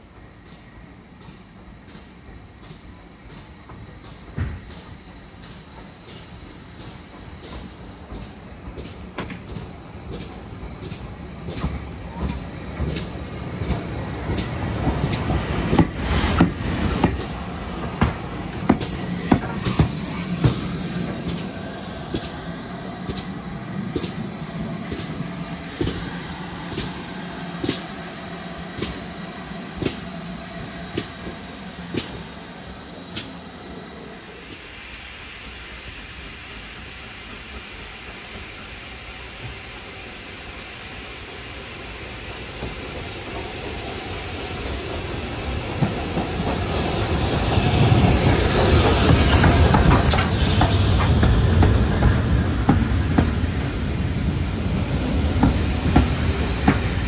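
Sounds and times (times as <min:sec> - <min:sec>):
train running noise: 0:00.0 - 0:57.0
train wheels clicking over rail joints: 0:00.4 - 0:34.7, 0:41.3 - 0:57.0
steam hissing: 0:00.8 - 0:57.0.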